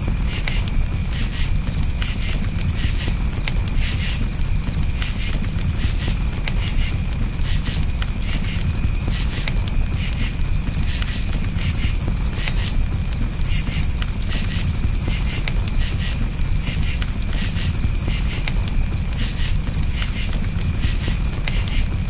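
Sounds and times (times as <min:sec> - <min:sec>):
campfire crackling: 0:00.0 - 0:22.0
crickets chirping: 0:00.0 - 0:22.0.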